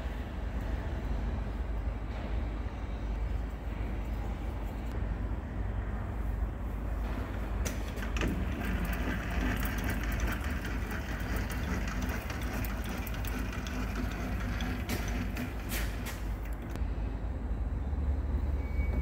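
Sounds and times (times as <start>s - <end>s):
machine shop hum: 0.0s - 19.0s.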